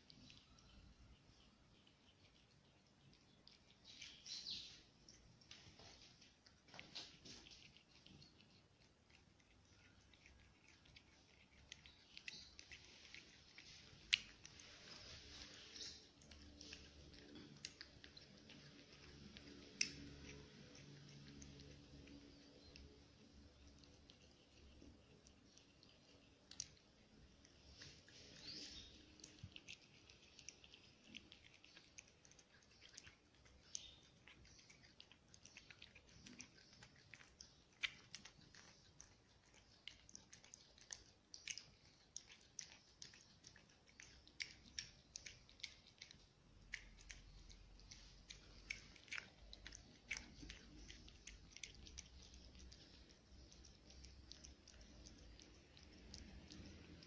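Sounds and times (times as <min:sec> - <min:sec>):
cat chewing and licking: 0:00.0 - 0:57.0.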